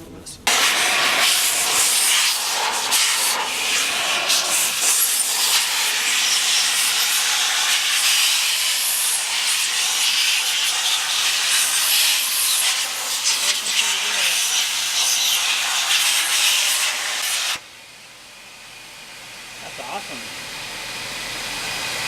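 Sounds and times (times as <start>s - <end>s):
air blower hissing: 0.5s - 22.0s.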